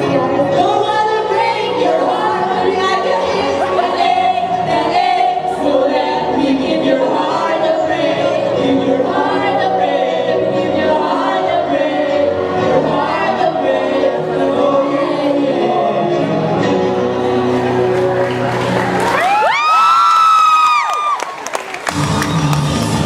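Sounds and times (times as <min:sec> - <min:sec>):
voices singing together: 0:00.0 - 0:18.8
backing music: 0:00.0 - 0:19.7, 0:21.8 - 0:23.0.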